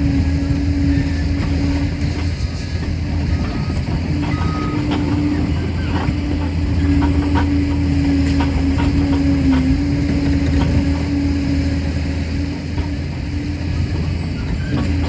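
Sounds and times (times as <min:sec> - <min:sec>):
crawler dozer engine rumbling: 0:00.0 - 0:15.0.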